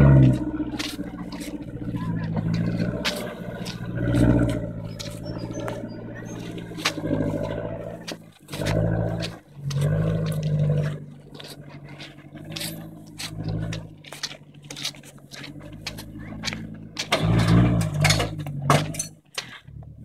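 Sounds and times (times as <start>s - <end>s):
truck engine revving: 0.0s - 20.0s
tyres crunching on stones: 0.0s - 20.0s.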